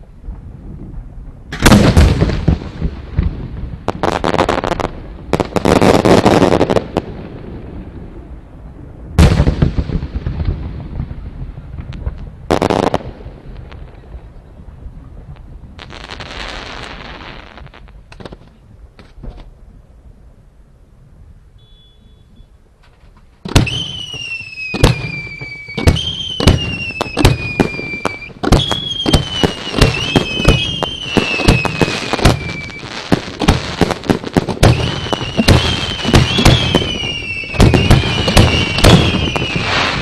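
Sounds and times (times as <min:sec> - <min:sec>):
fireworks crackling: 0:00.0 - 0:18.5, 0:23.4 - 0:40.0
fireworks bangs: 0:00.2 - 0:08.4, 0:09.1 - 0:18.4, 0:23.4 - 0:40.0.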